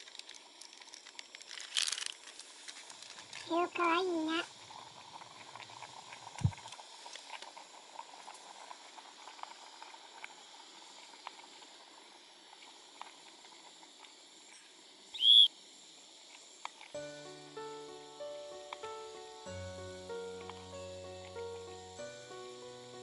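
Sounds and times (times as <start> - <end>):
camp stove burner hissing: 0.0 - 23.0.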